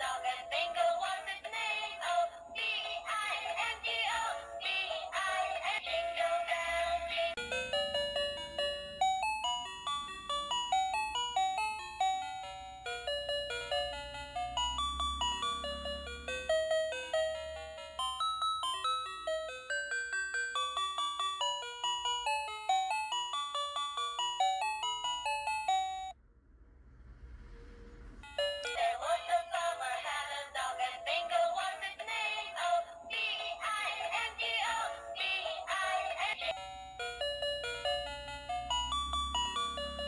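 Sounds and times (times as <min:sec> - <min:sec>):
toy beeping melody: 0:00.0 - 0:26.2, 0:28.2 - 0:40.0.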